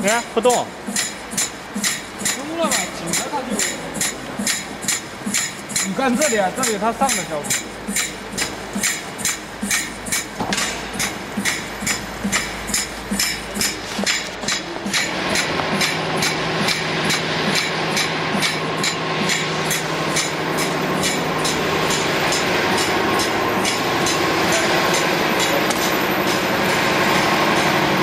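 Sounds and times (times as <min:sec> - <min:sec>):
machine humming: 0:00.0 - 0:28.0
machine clicking: 0:00.4 - 0:24.2.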